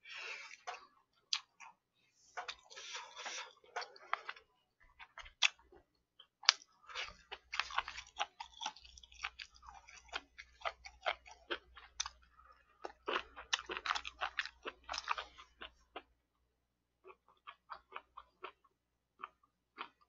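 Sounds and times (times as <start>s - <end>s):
person chewing: 0.1s - 16.2s, 17.0s - 20.0s.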